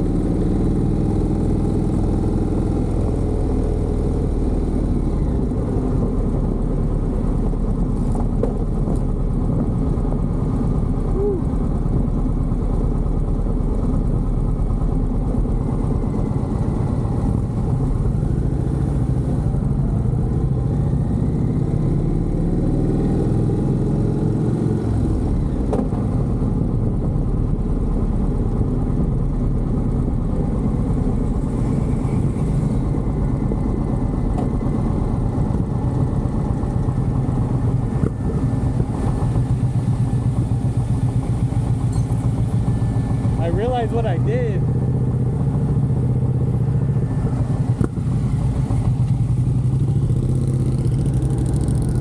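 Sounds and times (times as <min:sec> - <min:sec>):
motorcycle engine running: 0:00.0 - 0:52.0
road noise: 0:00.0 - 0:52.0.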